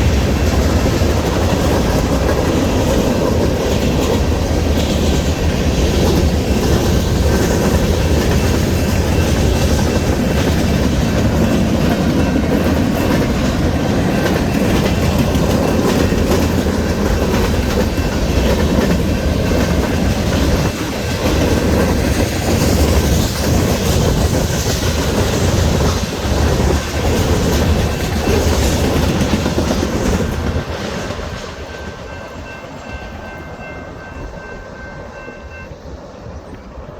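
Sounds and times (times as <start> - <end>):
freight train wheels clacking: 0.0 - 36.9.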